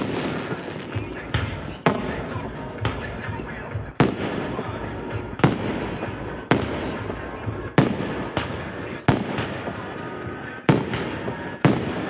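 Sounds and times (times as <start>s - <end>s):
firework bangs: 0.0s - 12.0s
fireworks crackling: 0.0s - 12.0s.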